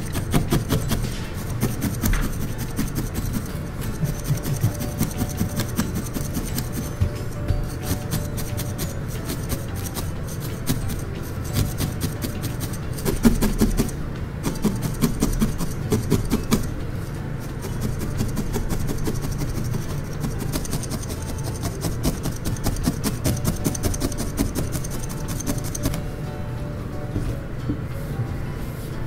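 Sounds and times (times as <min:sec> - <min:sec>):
felting needle poking: 0:00.0 - 0:26.1.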